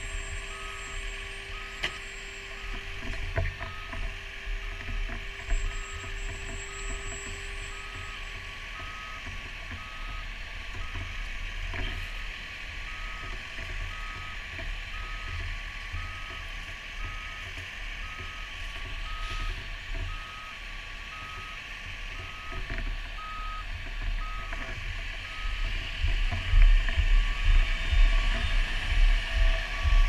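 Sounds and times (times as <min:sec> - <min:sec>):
fire engine rumbling: 0:00.0 - 0:30.0
reversing alarm beeping: 0:00.0 - 0:30.0.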